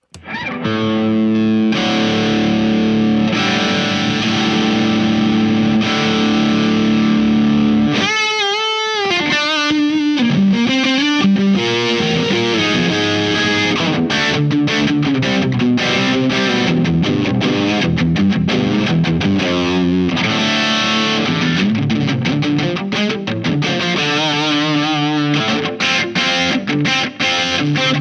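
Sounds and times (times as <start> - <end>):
distorted electric guitar: 1.8 - 28.0.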